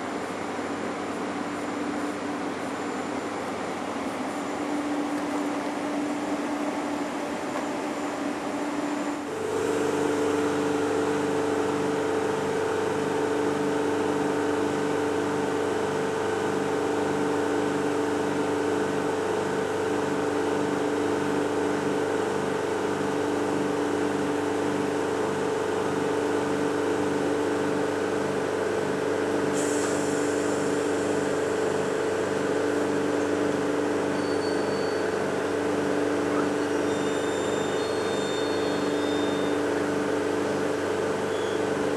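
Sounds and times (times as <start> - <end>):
electric locomotive humming: 0.0 - 41.9.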